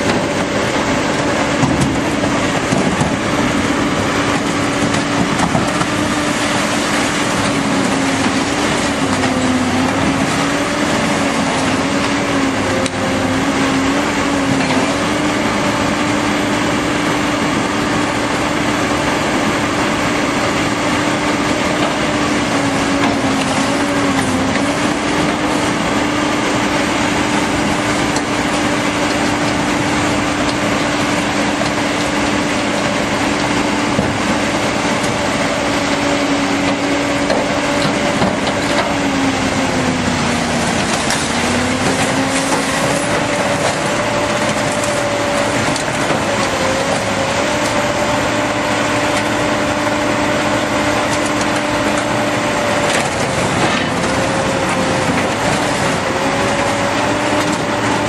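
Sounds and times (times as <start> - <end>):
metal crunching and creaking: 0.0 - 15.6, 20.7 - 58.0
diesel engine under load: 0.0 - 58.0.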